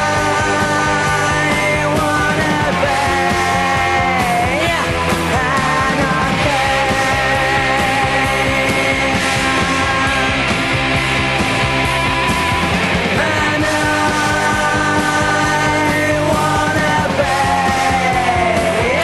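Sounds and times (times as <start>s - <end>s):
male lead vocal singing: 0.0s - 10.6s, 13.0s - 19.0s
punk rock band playing: 0.0s - 19.0s.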